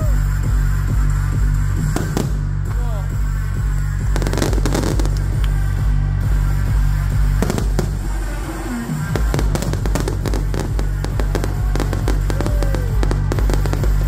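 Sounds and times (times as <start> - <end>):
loud music with pounding bass: 0.0 - 14.0.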